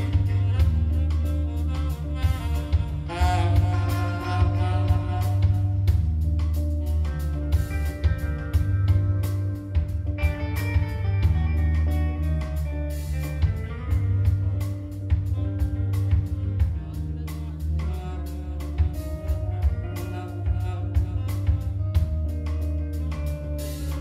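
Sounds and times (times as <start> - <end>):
bass: 0.0 - 24.0
drum kit beat: 0.0 - 24.0
electric guitar line: 0.0 - 24.0.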